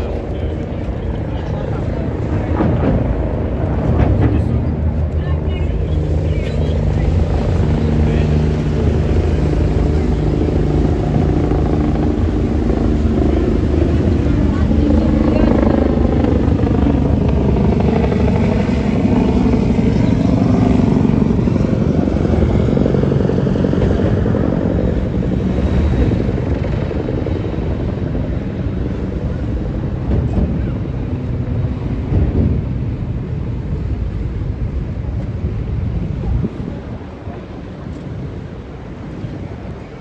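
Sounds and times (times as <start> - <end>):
helicopter engine and rotor drone: 0.0 - 40.0
wind buffeting microphone: 0.0 - 40.0.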